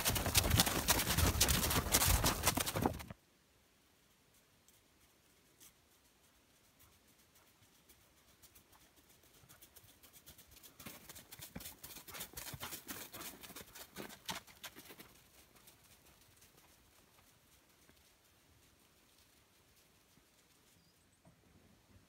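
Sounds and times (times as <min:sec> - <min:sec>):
horse hoofbeats on snow: 0:00.0 - 0:03.2, 0:05.9 - 0:20.9.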